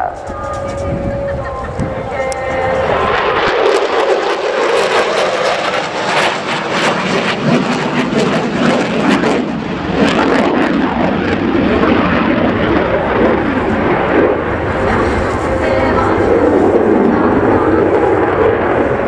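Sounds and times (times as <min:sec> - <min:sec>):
jet engine roar: 0:00.0 - 0:19.0.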